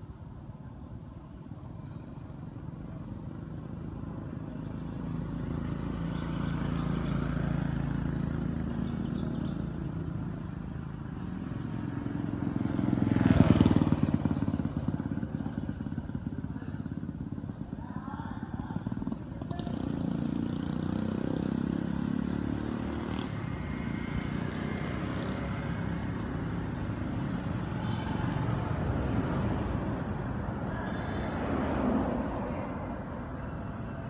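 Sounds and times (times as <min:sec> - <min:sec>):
vehicles passing on road: 0:00.0 - 0:34.0.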